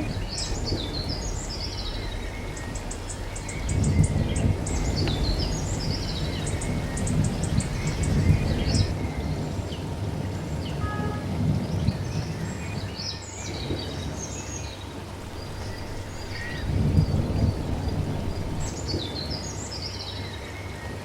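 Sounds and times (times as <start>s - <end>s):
low rumble: 0.0s - 10.7s, 13.6s - 20.2s
small birds calling: 0.0s - 10.8s, 11.4s - 20.5s.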